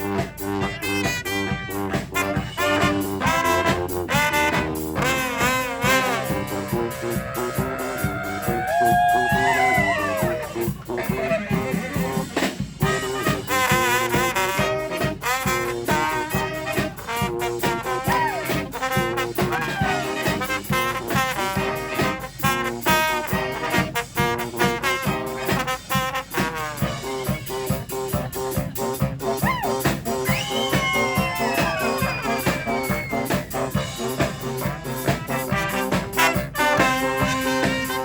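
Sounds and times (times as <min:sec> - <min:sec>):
brass band playing: 0:00.0 - 0:38.0
steady drum beat: 0:00.0 - 0:38.0.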